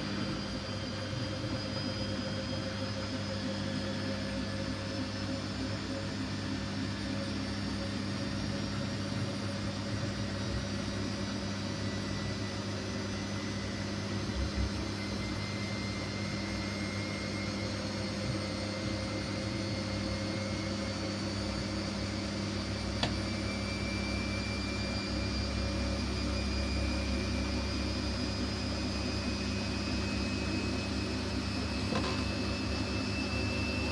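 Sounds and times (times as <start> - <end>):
washing machine motor whine: 0.0 - 33.9.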